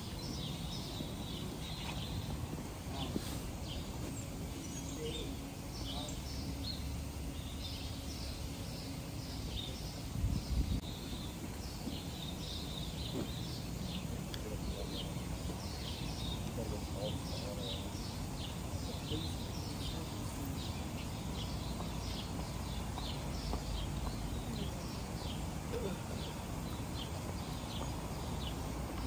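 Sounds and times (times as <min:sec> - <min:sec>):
low buffeting: 0:00.0 - 0:29.0
small birds chirping: 0:00.0 - 0:29.0.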